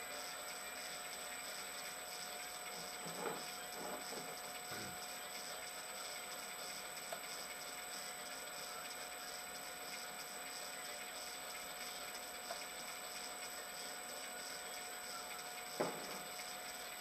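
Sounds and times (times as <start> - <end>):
muffled metal lathe running: 0.0 - 17.0.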